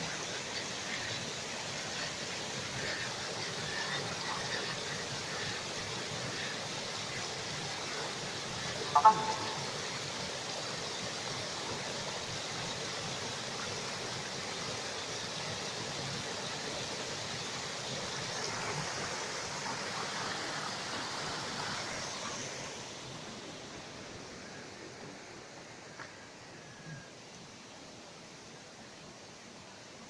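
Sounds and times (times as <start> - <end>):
stream rushing over rocks: 0.0 - 30.0.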